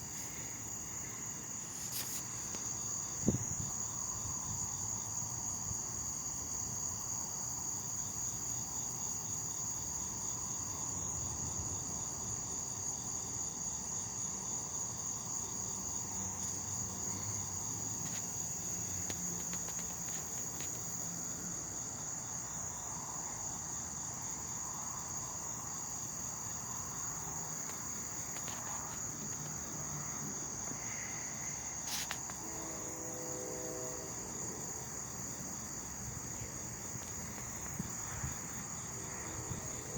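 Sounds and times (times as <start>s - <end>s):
chorus of night insects: 0.0s - 39.9s
lower pulsing insect trill: 0.0s - 39.9s.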